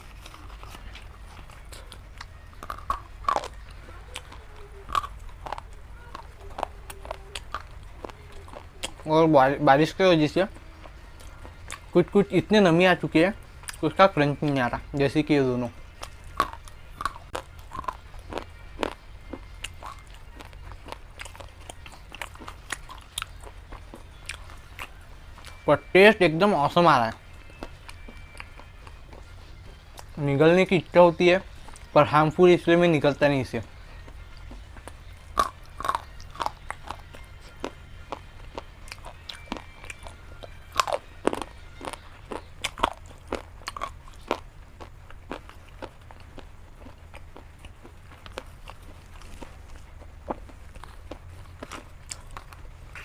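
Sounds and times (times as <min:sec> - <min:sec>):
person chewing brittle material: 0:00.0 - 0:53.0.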